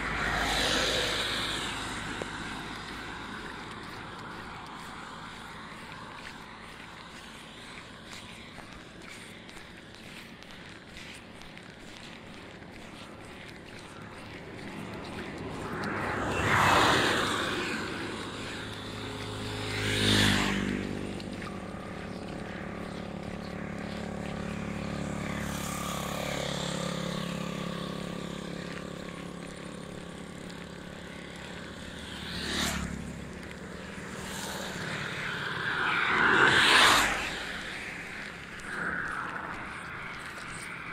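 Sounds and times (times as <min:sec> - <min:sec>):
steady engine hum: 0:00.0 - 0:40.9
vehicles passing: 0:00.0 - 0:40.9.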